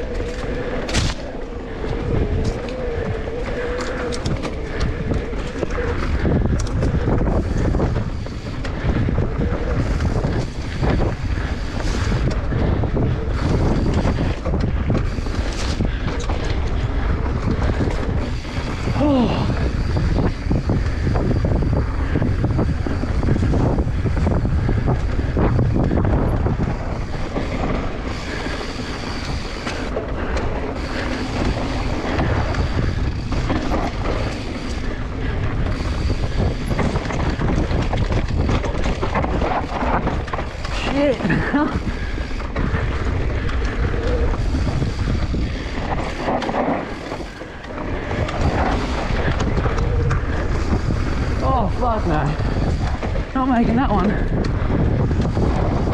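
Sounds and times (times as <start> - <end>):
bike knocks and rattles: 0.0 - 51.5
tyres rumbling on dirt: 0.0 - 55.9
wind buffeting microphone: 0.0 - 55.9.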